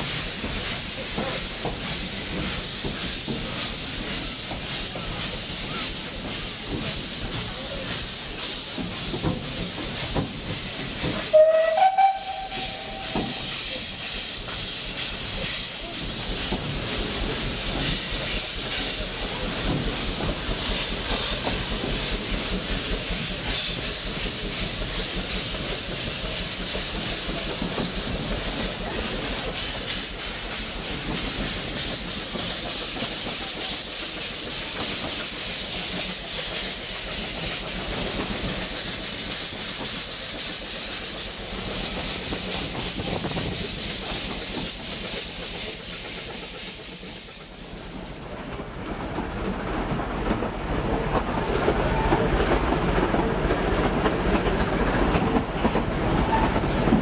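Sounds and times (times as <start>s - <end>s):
carriages running on rails: 0.0s - 57.0s
steam locomotive hiss and exhaust: 0.0s - 57.0s.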